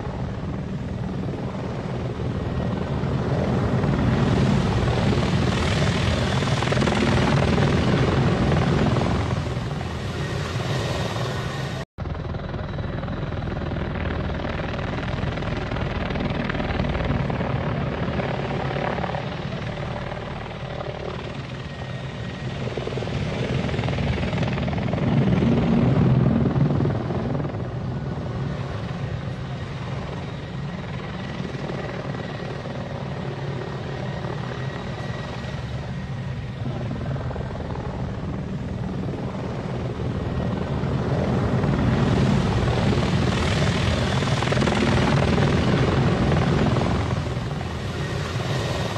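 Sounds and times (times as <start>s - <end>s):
helicopter rotor and engine: 0.0s - 48.9s.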